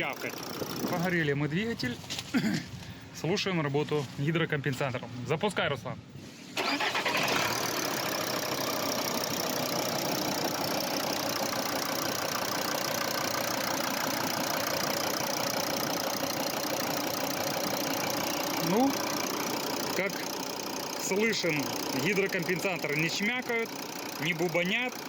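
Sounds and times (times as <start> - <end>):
diesel engine starting and idling: 0.0 - 1.9, 6.6 - 25.0.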